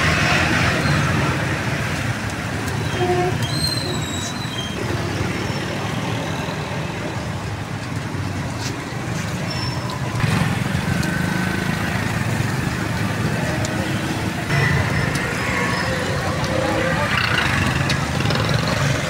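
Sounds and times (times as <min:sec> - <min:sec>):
roadside traffic rumble: 0:00.0 - 0:19.0.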